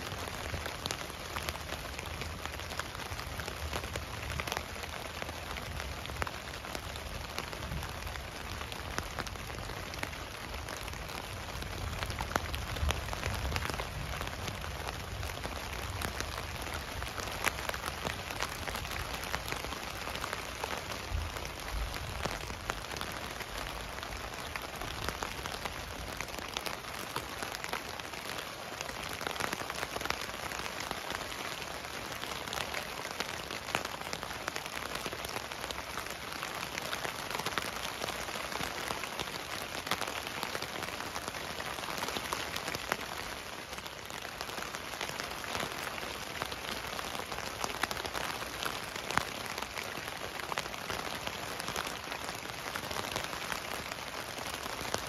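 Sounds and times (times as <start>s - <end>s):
rain drops ticking on tent: 0.0s - 55.0s.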